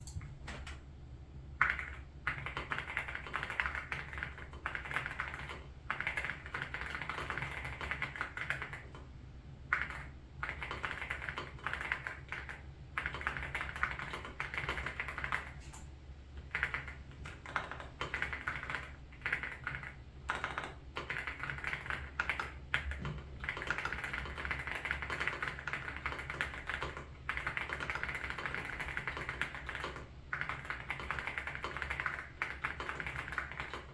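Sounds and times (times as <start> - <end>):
mechanical keyboard typing: 1.6 - 9.1, 9.7 - 15.6, 16.5 - 33.9.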